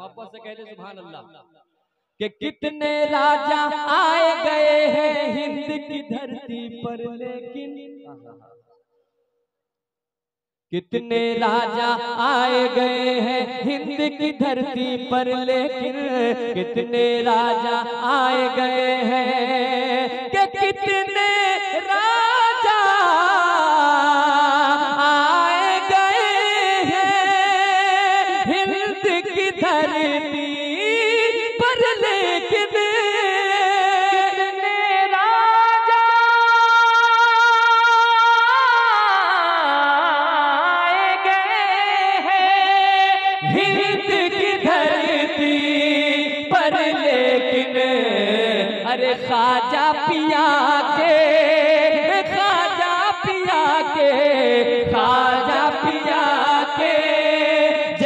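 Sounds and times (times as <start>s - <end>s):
man singing into microphone: 2.2s - 8.6s, 10.7s - 58.0s.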